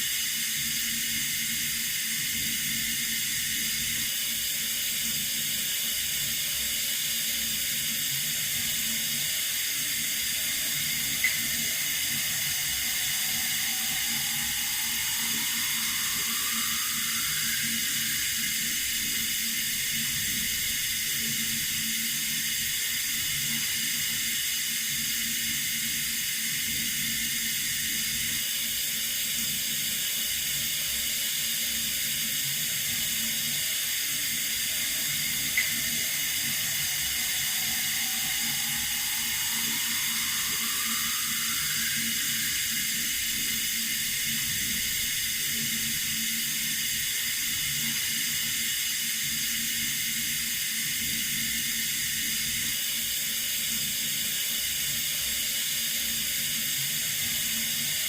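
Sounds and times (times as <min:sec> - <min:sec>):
water running from a tap: 0:00.1 - 0:28.5, 0:31.2 - 0:52.8.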